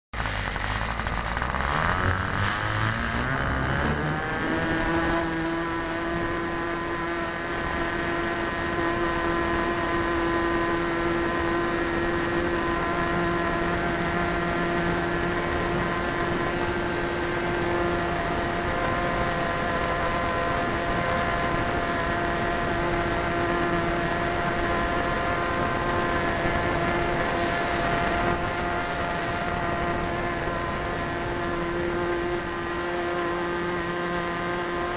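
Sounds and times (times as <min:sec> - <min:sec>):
model plane engine at high throttle: 0:00.1 - 0:34.9
wind rushing over microphone: 0:00.2 - 0:34.9.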